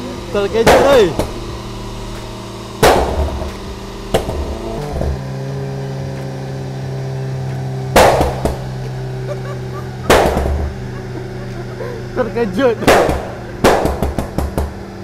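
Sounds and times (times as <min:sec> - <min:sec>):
exhaust backfire bangs: 0:00.0 - 0:11.4, 0:12.0 - 0:15.0
car engine idling: 0:00.0 - 0:15.0.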